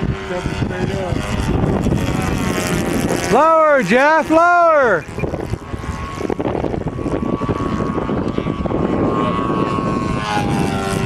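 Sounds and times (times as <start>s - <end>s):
model airplane motor whining: 0.0s - 11.0s
wind buffeting microphone: 0.0s - 11.0s.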